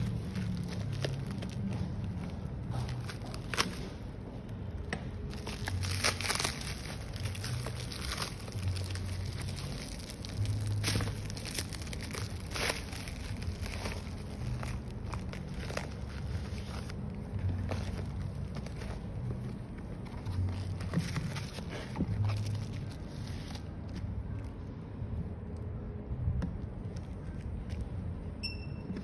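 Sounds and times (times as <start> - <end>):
plastic bags crinkling and tearing: 0.0 - 24.6.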